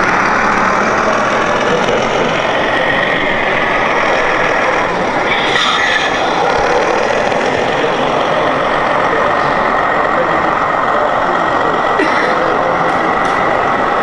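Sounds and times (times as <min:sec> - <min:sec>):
simulated diesel engine running: 0:00.0 - 0:14.0.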